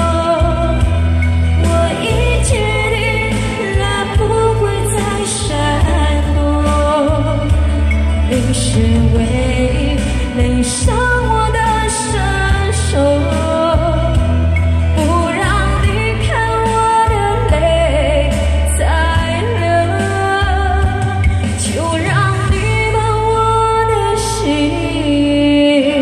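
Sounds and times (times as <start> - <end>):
heavy bass line: 0.0 - 25.5
karaoke backing track: 0.0 - 26.0
woman singing into a microphone: 0.0 - 26.0.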